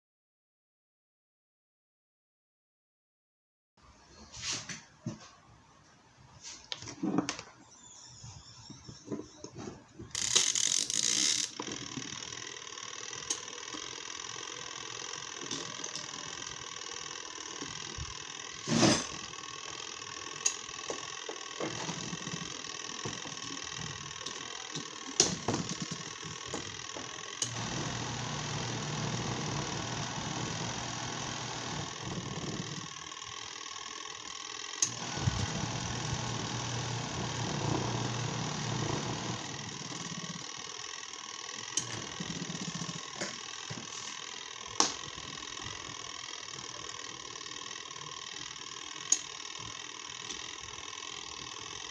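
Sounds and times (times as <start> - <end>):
washing machine motor humming: 10.2 - 51.9.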